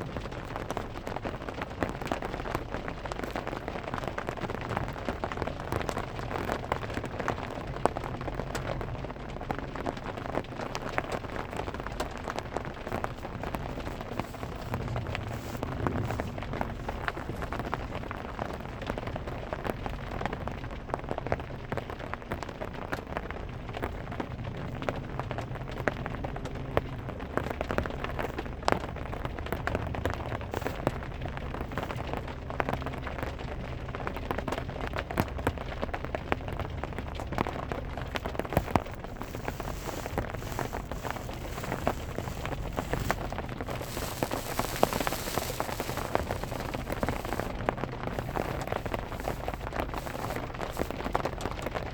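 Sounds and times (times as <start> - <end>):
rain on a car roof: 0.0 - 51.9.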